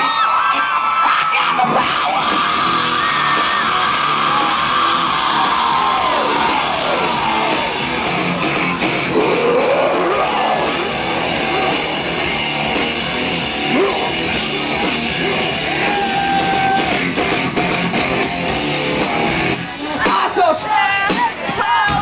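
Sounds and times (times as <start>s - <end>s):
drum kit: 0.0s - 22.0s
live rock band playing: 0.0s - 22.0s
electric guitar: 1.6s - 19.8s.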